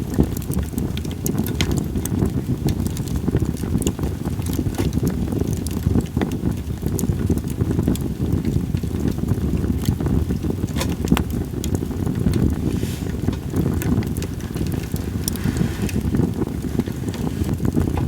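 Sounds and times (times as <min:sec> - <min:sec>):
campfire crackling and popping: 0:00.0 - 0:18.0
wind rumble on microphone: 0:00.0 - 0:18.0.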